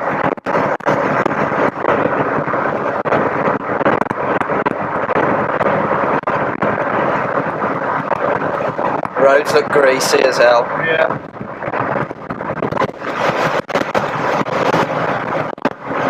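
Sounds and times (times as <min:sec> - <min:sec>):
car engine running: 0:00.0 - 0:16.0
road and wind noise: 0:00.0 - 0:16.0.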